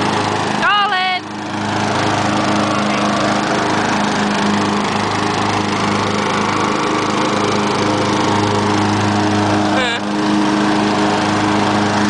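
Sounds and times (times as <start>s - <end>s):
riding lawnmower engine running: 0.0s - 12.0s.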